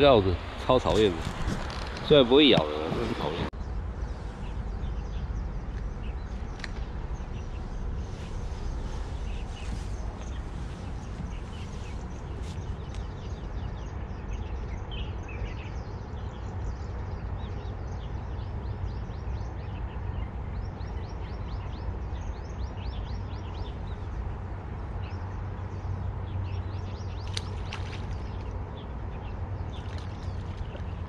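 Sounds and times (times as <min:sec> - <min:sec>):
small birds chirping: 0:00.0 - 0:31.0
steady low rumble: 0:00.0 - 0:31.0.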